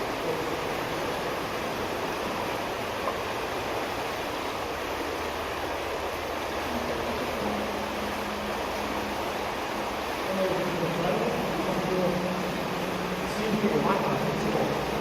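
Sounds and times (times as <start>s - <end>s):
water rushing through culvert: 0.0s - 15.0s.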